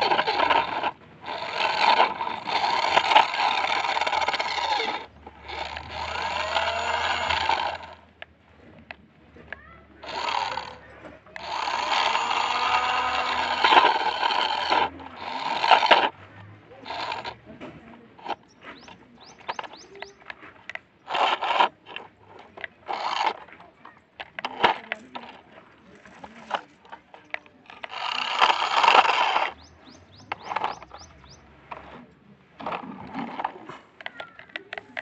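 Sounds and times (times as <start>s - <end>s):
pebbles and grit clicking: 0.0s - 35.0s
toy car wheels scraping dirt: 0.0s - 35.0s.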